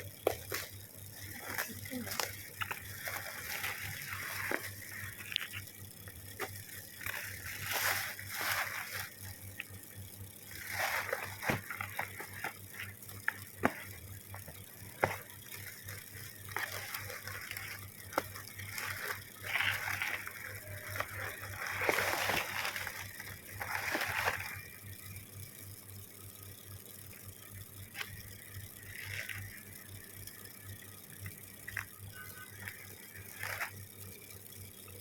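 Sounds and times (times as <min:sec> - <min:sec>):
plastic packaging crinkling: 0:00.0 - 0:25.2, 0:27.8 - 0:30.0, 0:30.6 - 0:34.3
steady low hum: 0:00.0 - 0:35.0.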